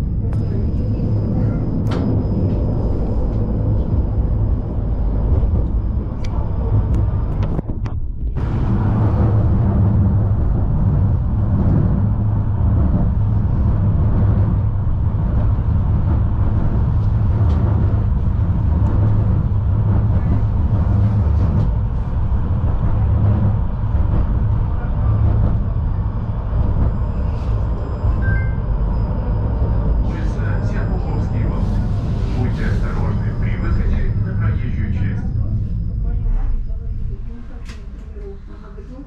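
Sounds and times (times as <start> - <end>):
tram rumbling on track: 0.0 - 39.0.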